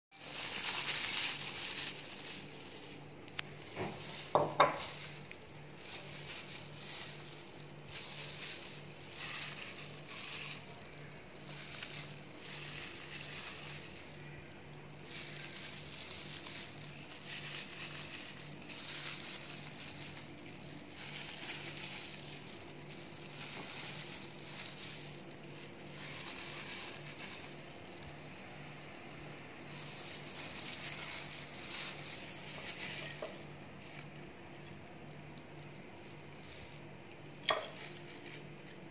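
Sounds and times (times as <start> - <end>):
plastic gloves crinkling: 0.1 - 38.9.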